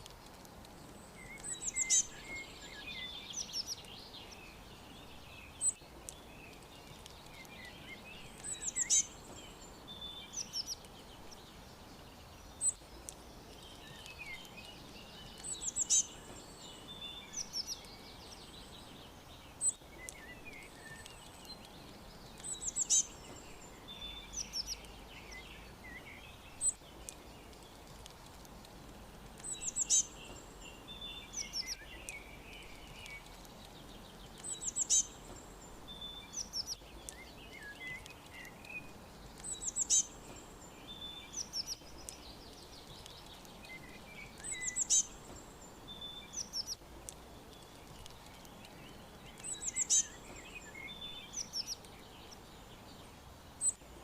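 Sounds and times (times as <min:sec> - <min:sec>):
faint background hiss: 0:00.0 - 0:54.0
songbirds chirping and trilling: 0:00.0 - 0:54.0
loud bird song phrase: 0:00.8 - 0:28.0, 0:29.4 - 0:54.0.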